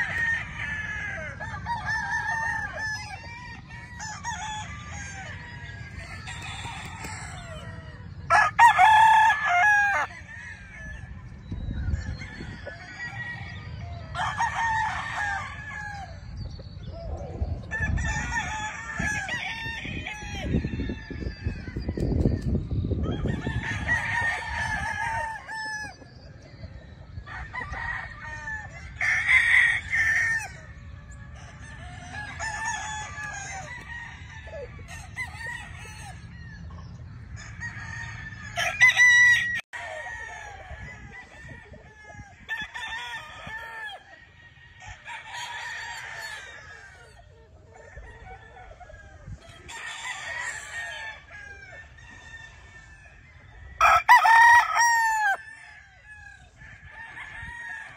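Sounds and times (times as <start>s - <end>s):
roosters crowing: 0.0s - 57.9s.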